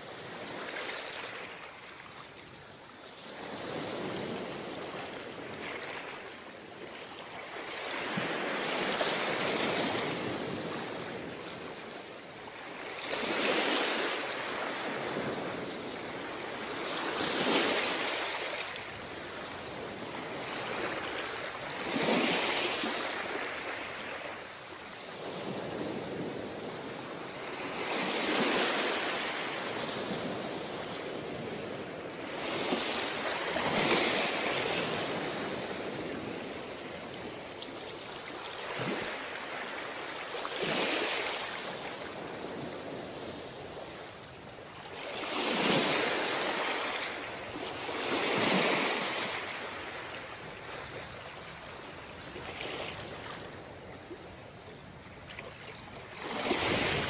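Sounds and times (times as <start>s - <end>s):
ocean waves crashing on beach: 7.4s - 57.0s.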